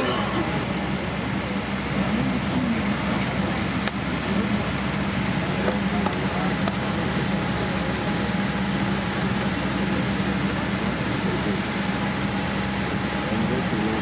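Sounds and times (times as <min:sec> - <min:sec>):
airliner cabin hum: 0:00.0 - 0:14.0
faint voices murmuring: 0:00.0 - 0:14.0.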